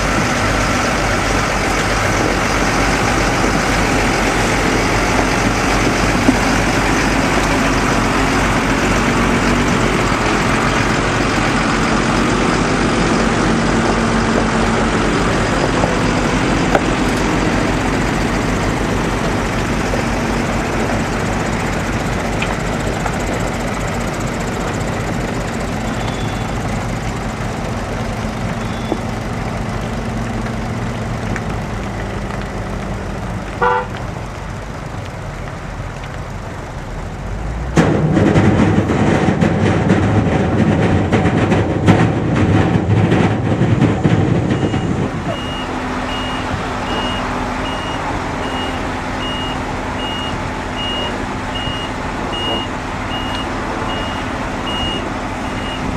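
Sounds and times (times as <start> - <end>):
heavy diesel engines running: 0.0 - 55.9.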